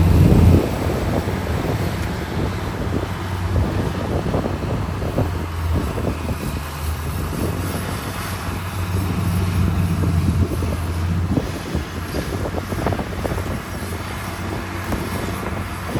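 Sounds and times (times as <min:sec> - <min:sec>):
diesel machinery engine drone: 0:00.0 - 0:15.9.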